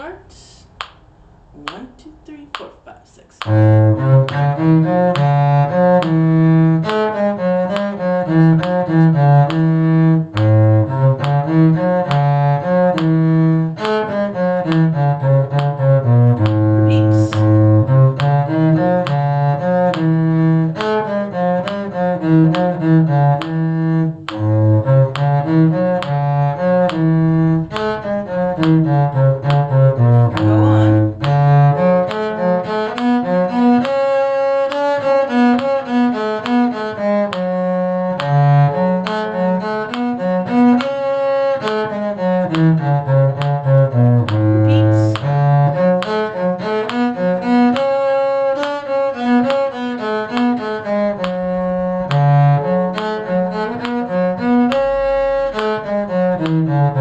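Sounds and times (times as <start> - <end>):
cello playing bowed notes: 3.4 - 57.0.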